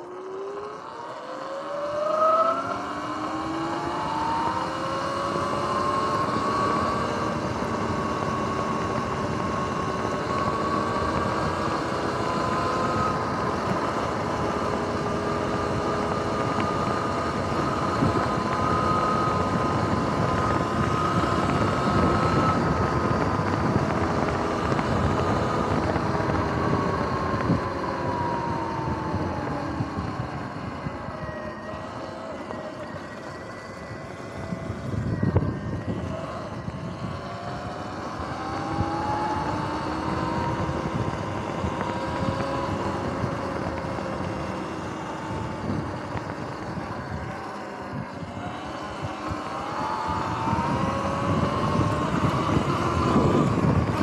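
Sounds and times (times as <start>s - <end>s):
electric motor whining: 0.0s - 54.0s
wind and road noise: 0.0s - 54.0s.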